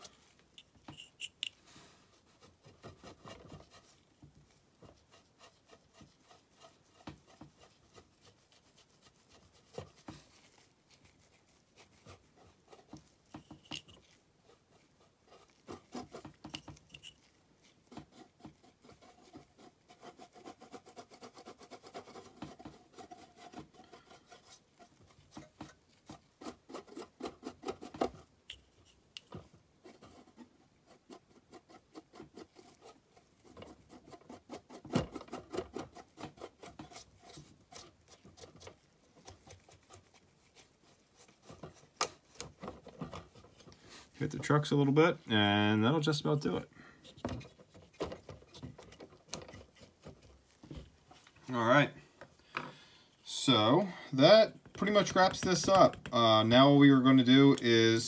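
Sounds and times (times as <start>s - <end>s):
brush scrubbing scratchy strokes: 0.0s - 52.0s, 53.2s - 58.0s.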